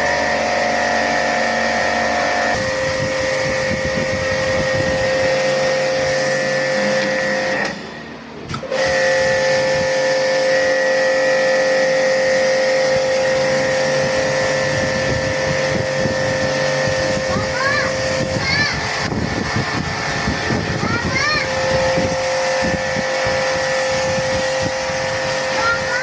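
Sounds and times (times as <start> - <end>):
machine motor whining: 0.0 - 26.0.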